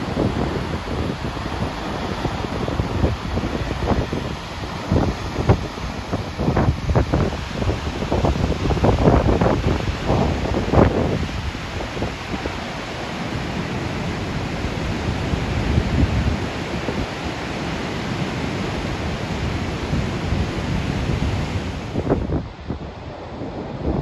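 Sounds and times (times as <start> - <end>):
waterfall rushing water: 0.0 - 24.0
wind rumbling on microphone: 0.0 - 24.0.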